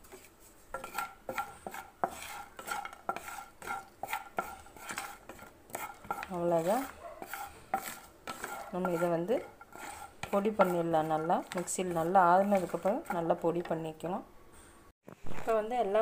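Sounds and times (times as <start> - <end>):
spatula scraping a pan: 0.0 - 14.0.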